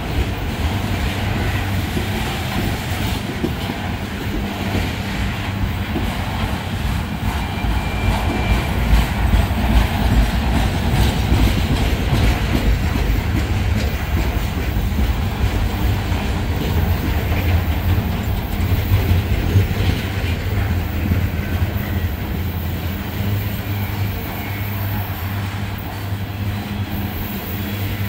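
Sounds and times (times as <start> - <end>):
freight train rumbling past: 0.0 - 28.0
wheels clacking over rail joints: 0.0 - 28.0.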